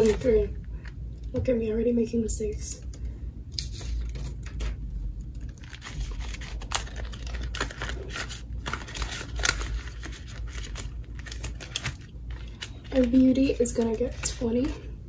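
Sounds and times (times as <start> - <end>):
paper and plastic rustling: 0.0 - 0.9, 3.6 - 14.8.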